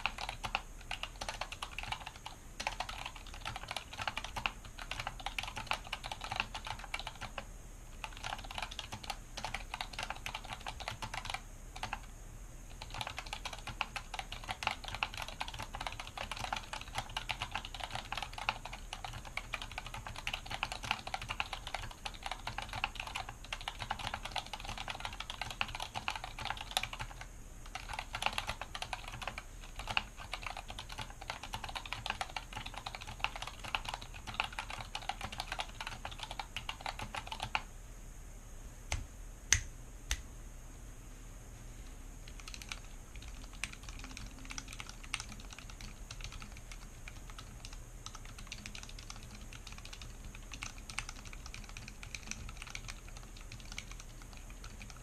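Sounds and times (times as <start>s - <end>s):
typing on mechanical keyboard: 0.0s - 7.4s, 8.0s - 12.1s, 12.8s - 37.7s, 42.3s - 55.0s.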